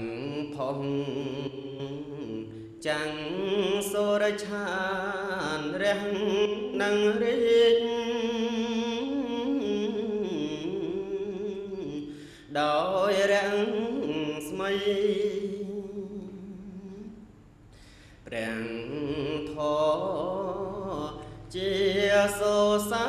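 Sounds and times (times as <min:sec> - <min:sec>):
person chanting with vibrato: 0:00.0 - 0:17.4, 0:18.2 - 0:23.0.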